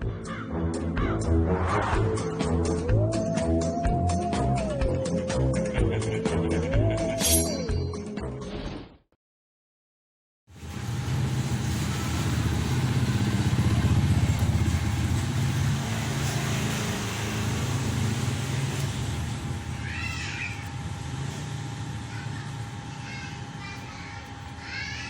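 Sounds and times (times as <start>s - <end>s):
motorcycle-like engine running: 0.0s - 7.0s, 10.5s - 25.0s.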